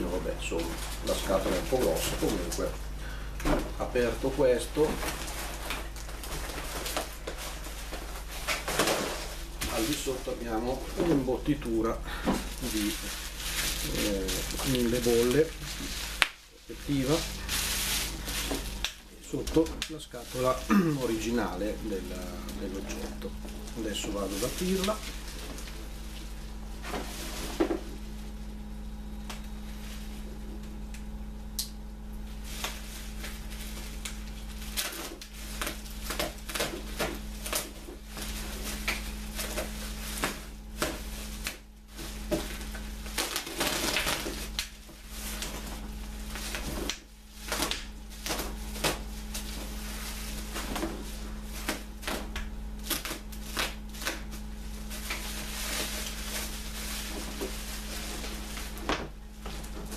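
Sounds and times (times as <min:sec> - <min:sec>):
bubble wrap crinkling and crackling: 0:00.0 - 0:59.9.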